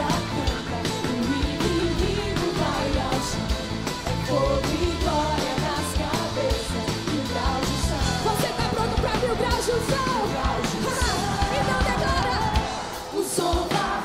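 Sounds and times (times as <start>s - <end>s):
people singing: 0.0s - 14.0s
rock band playing: 0.0s - 14.0s.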